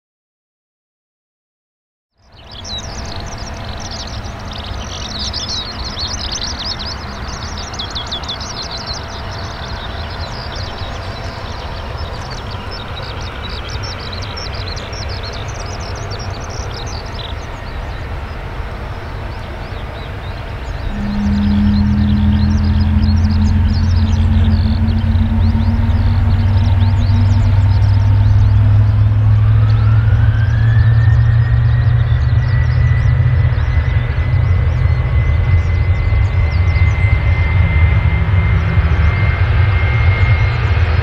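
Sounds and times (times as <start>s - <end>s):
birds chirping: 2.2s - 37.0s
jet engines rumbling at low power: 2.3s - 41.0s.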